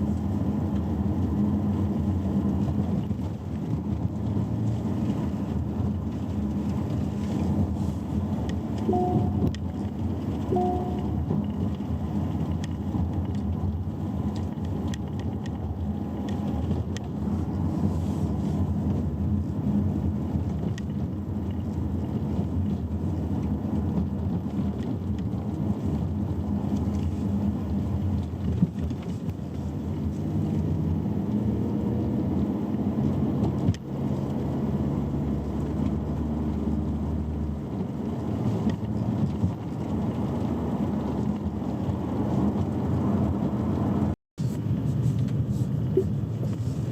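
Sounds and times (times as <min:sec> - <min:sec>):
low engine hum: 0:00.0 - 0:46.9
road and tyre noise: 0:00.0 - 0:46.9.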